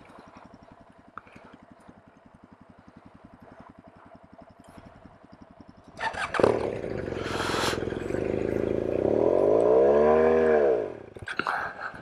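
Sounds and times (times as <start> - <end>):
motorcycle engine revving: 0.2 - 11.3.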